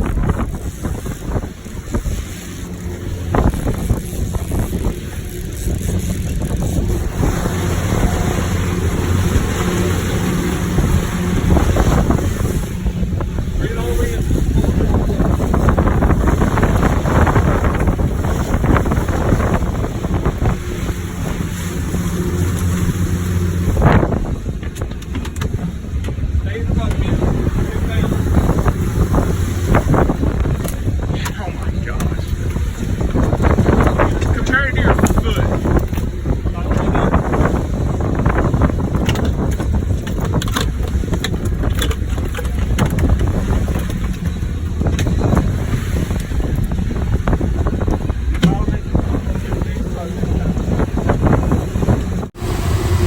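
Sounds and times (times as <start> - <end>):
outboard motor humming: 0.0 - 53.0
wind noise on microphone: 0.0 - 53.0.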